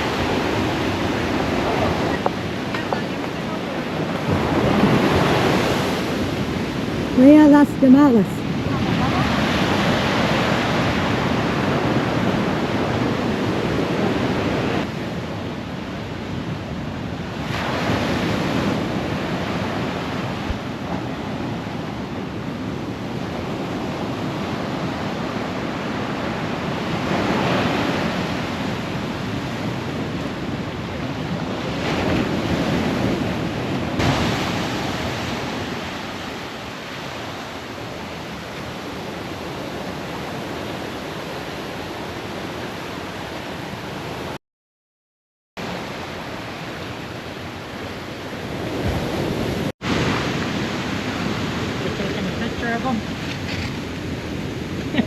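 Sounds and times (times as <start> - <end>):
ocean surf breaking on beach: 0.0 - 44.4, 45.6 - 55.0
wind buffeting microphone: 0.0 - 44.4.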